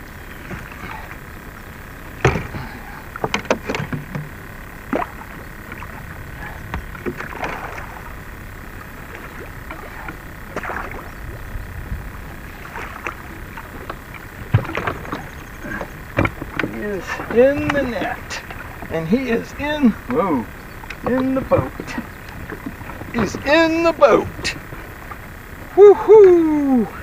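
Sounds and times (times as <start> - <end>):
water washing: 2.0 - 27.0.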